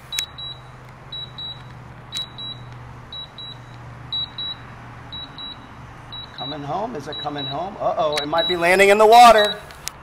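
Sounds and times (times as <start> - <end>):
remote controller high beeps: 0.1 - 9.7.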